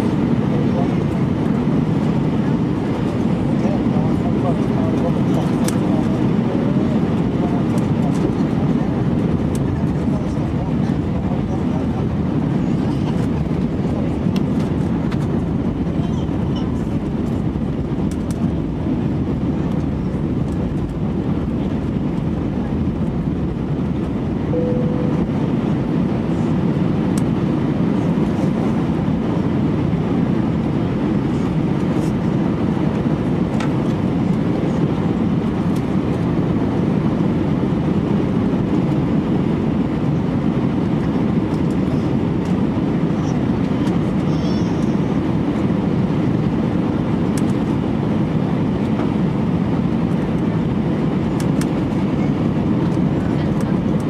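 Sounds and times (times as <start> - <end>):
airplane engines rumbling in cabin: 0.0 - 54.0.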